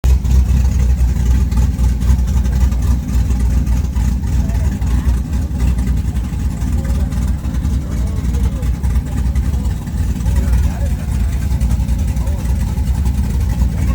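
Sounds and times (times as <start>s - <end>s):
pickup engine idling with choppy lope: 0.0s - 13.9s.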